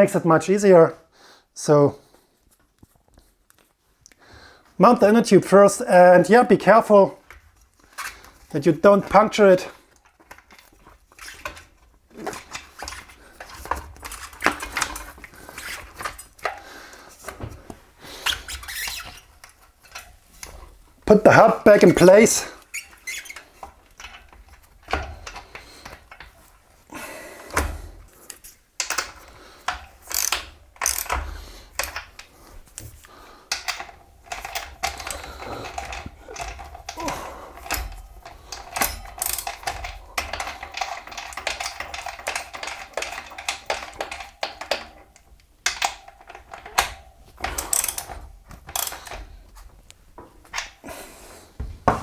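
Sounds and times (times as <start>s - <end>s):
tools clicking and ratcheting: 7.2s - 17.4s, 18.2s - 26.6s, 27.5s - 51.0s.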